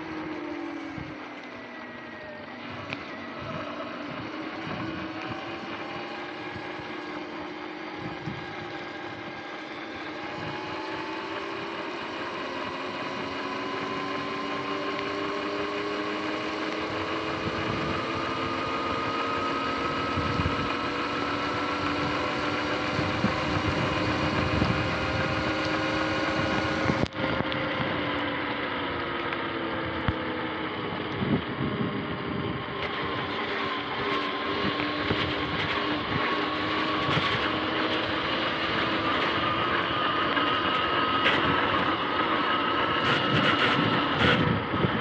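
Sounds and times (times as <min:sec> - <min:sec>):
electric motor whine: 0:00.0 - 0:45.0.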